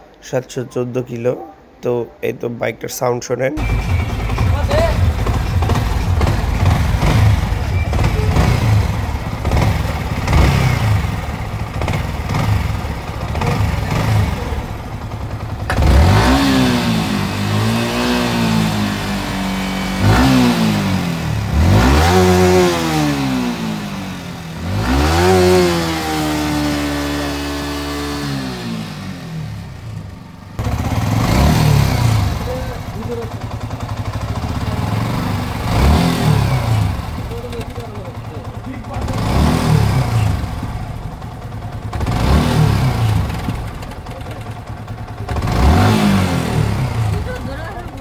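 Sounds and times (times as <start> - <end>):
engine revving: 3.6 - 48.0
motorcycle engine clattering: 3.6 - 48.0.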